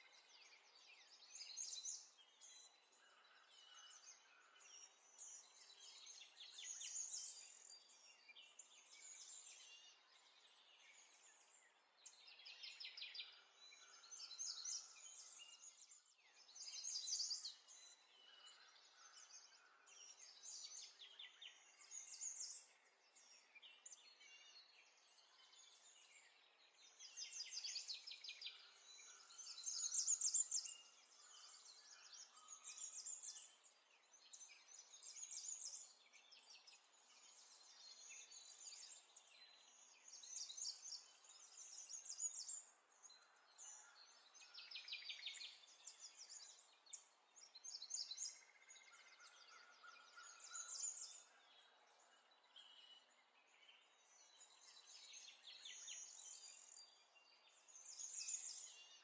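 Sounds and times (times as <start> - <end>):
faint birds chirping: 0.1 - 59.0.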